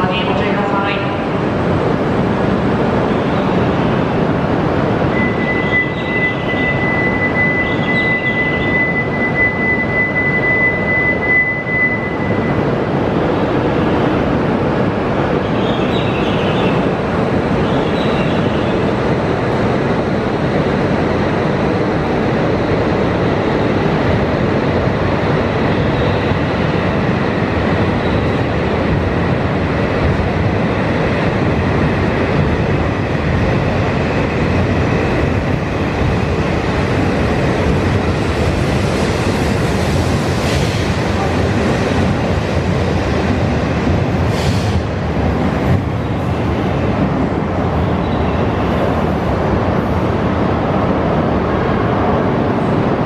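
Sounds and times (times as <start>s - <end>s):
train rumble and rush: 0.0s - 53.0s.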